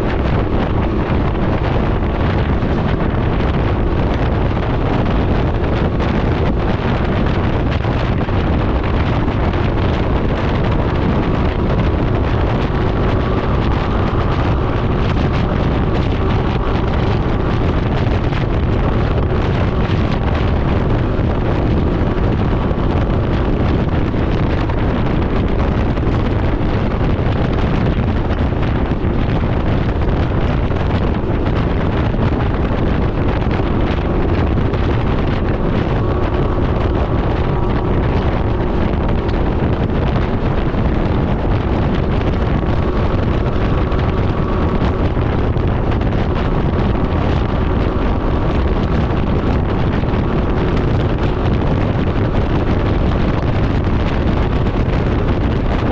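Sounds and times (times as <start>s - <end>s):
engine cruising drone: 0.0s - 55.9s
wind rushing over microphone: 0.0s - 55.9s.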